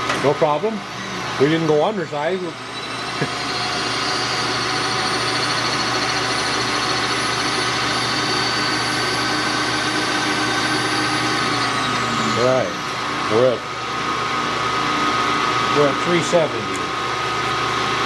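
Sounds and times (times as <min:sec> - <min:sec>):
milling machine running: 0:00.0 - 0:18.0.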